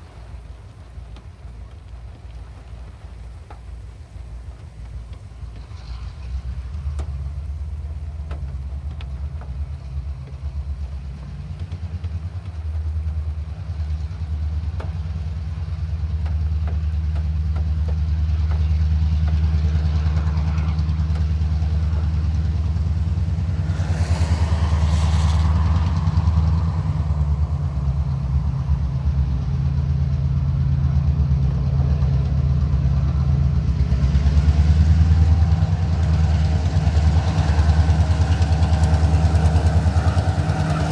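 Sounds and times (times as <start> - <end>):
locomotive engine drone: 0.0 - 40.9.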